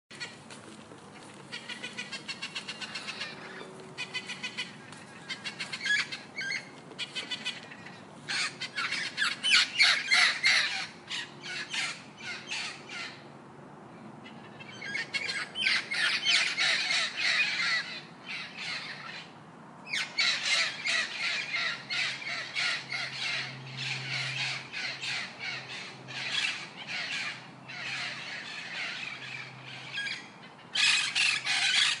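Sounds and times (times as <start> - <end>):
macaws squawking: 0.1 - 13.2, 14.3 - 19.3, 19.9 - 32.0.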